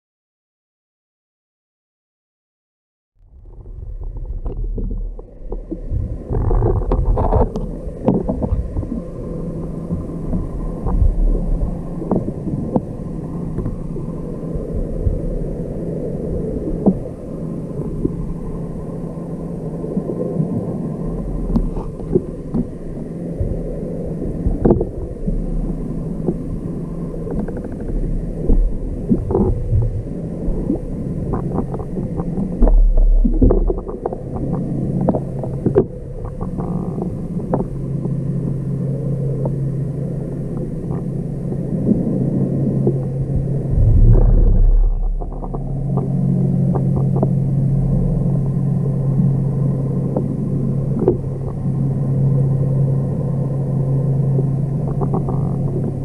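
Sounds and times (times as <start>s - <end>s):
faint steady hum: 3.2s - 56.0s
underwater water rumble: 3.2s - 56.0s.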